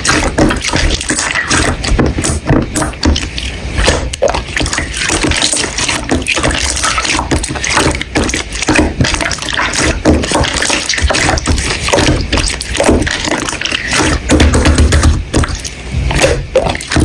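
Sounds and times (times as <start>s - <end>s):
slime squelching: 0.0s - 17.0s.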